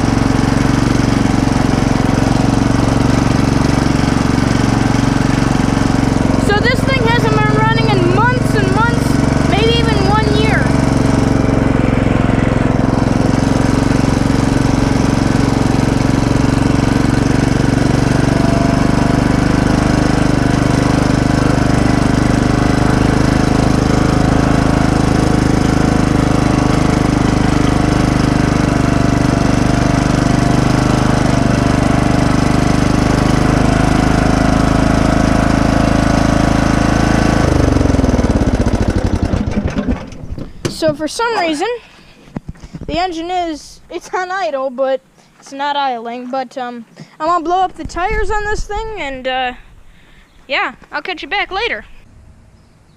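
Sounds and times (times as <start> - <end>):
lawn tractor engine running: 0.0 - 44.5.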